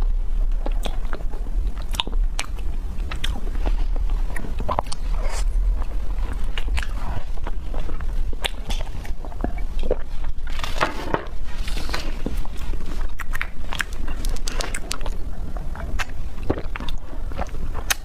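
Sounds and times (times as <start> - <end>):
wet chewing and smacking: 0.0 - 18.0.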